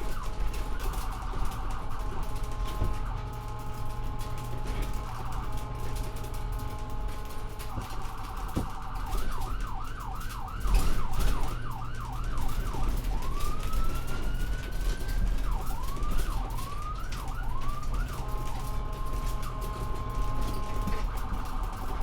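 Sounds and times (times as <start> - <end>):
ambulance siren: 0.0 - 22.0
engine and road rumble: 0.0 - 22.0.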